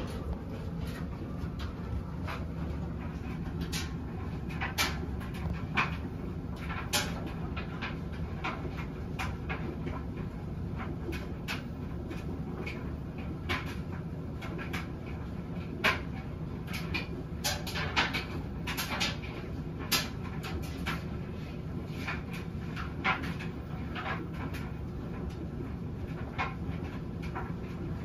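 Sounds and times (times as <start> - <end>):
washing machine drum hum: 0.0 - 28.0.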